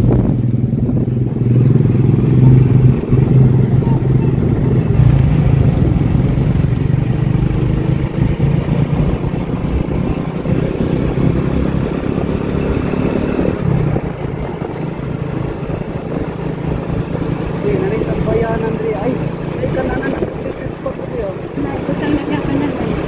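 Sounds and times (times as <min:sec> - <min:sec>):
road noise: 0:00.0 - 0:23.0
vehicle engine rumble: 0:00.0 - 0:23.0.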